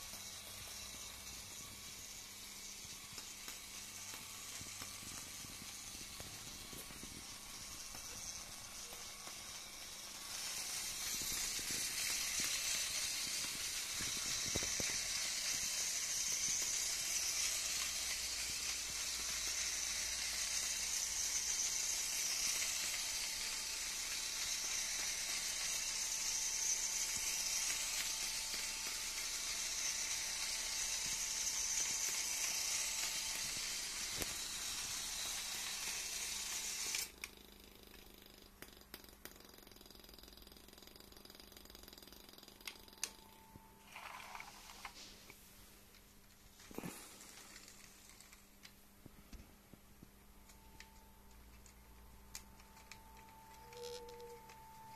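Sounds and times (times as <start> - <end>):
toy train motor whirring: 0.0 - 45.3, 46.5 - 48.8, 50.4 - 54.9.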